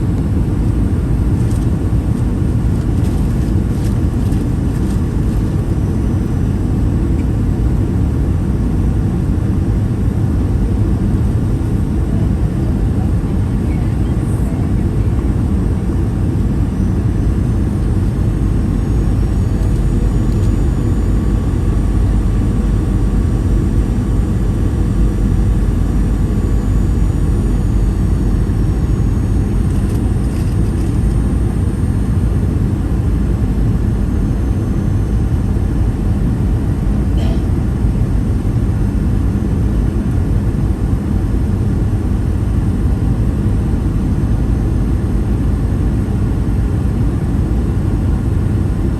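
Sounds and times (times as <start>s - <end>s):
airplane cabin rumble: 0.0s - 48.9s
faint high engine whine: 0.0s - 48.9s.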